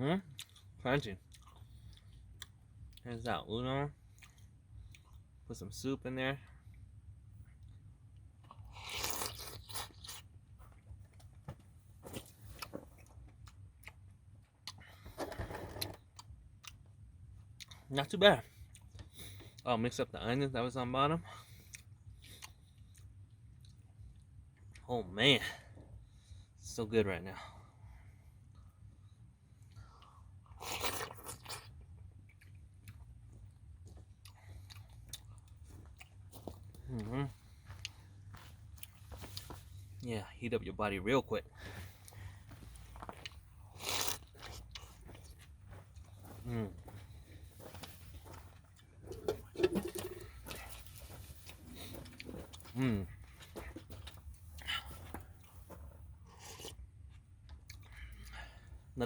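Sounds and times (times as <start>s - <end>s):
chewing with small clicks: 0.2s - 5.4s, 6.4s - 11.4s, 12.2s - 15.1s, 15.8s - 19.7s, 21.3s - 24.9s, 28.4s - 40.1s, 41.6s - 58.8s.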